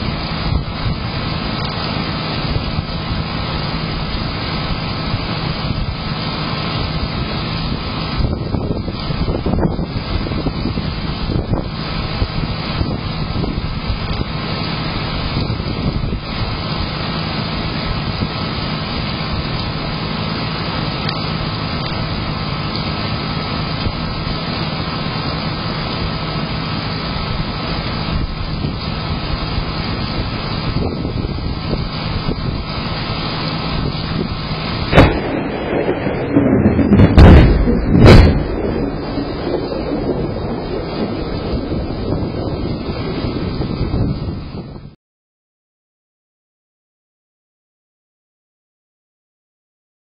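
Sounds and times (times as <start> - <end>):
steady low hum: 0.0 - 44.2
rain: 0.0 - 45.0
wind: 0.0 - 45.0.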